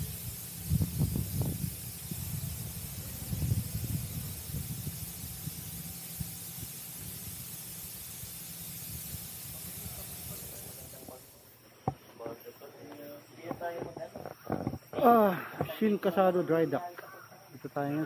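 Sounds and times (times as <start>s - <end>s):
high work hiss: 0.0s - 18.0s.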